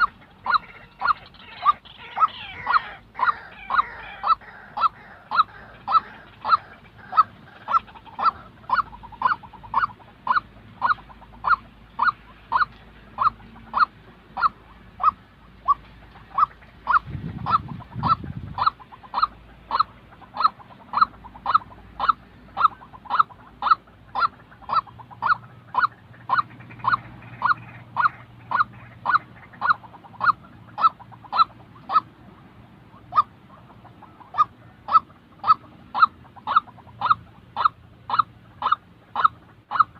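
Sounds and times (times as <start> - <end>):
waterhen calling harsh notes: 0.0 - 39.9.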